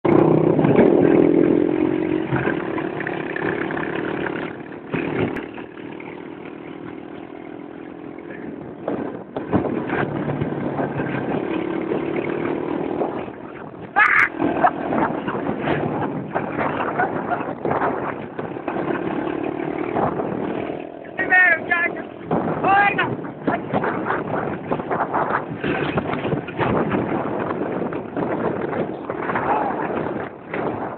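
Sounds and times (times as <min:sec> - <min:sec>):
quad bike engines running: 0:00.0 - 0:30.9.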